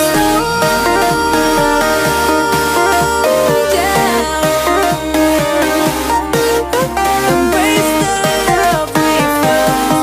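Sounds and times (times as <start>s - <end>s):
electronic pop music: 0.0s - 10.0s.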